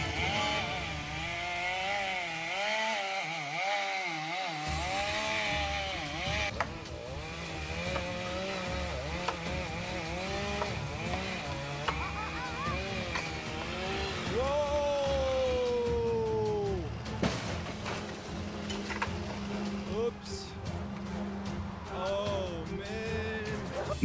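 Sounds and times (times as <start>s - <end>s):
chainsaw cutting: 0.0s - 16.0s, 16.8s - 21.9s.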